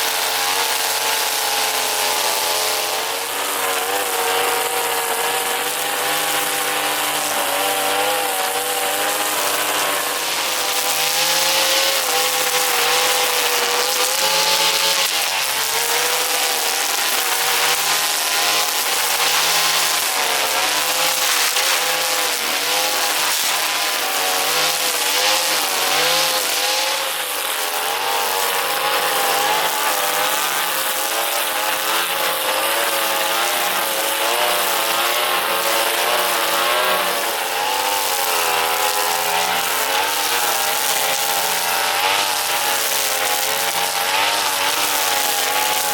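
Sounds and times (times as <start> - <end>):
brush cutter running: 0.0 - 45.9.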